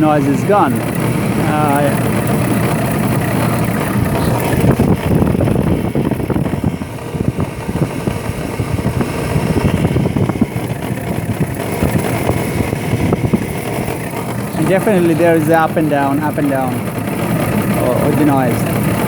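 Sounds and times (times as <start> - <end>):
car engine idling: 0.0 - 19.0
rapid knocking clatter: 0.0 - 19.0.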